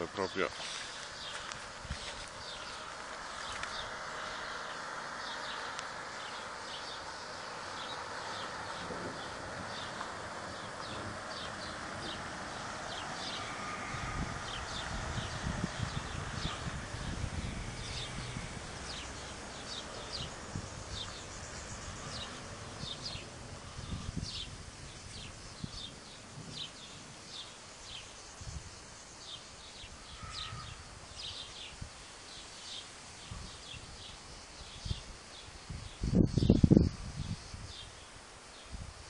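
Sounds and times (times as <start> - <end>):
small birds chirping: 0.0 - 38.8
wind gusting on microphone: 1.0 - 29.0, 29.8 - 32.1, 32.7 - 39.0.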